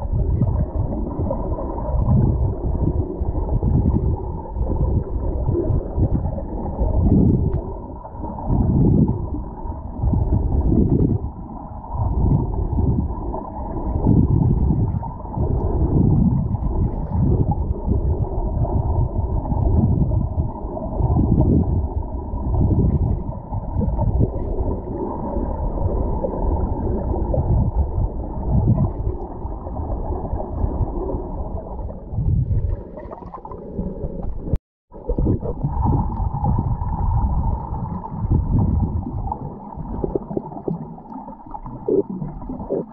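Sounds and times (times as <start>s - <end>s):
underwater water rumble and gurgling: 0.0s - 42.9s.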